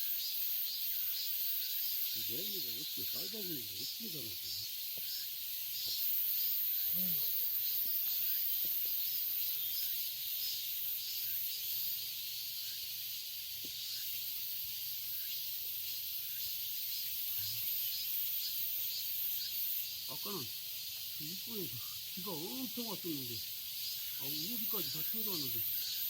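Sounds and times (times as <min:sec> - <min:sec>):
cicadas hissing: 0:00.0 - 0:26.0
soft pulsing insect call: 0:00.0 - 0:26.0.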